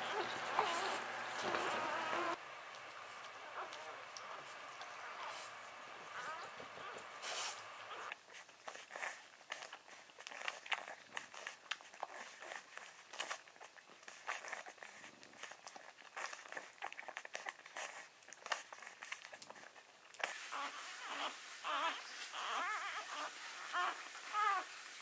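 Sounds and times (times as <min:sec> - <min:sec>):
rustling and crinkling: 0:00.0 - 0:25.0
small clicks and crackles: 0:00.1 - 0:21.1.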